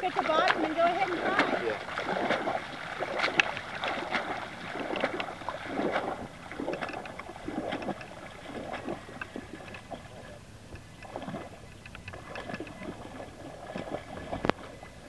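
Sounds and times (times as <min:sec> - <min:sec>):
pond water splashing: 0:00.0 - 0:15.0.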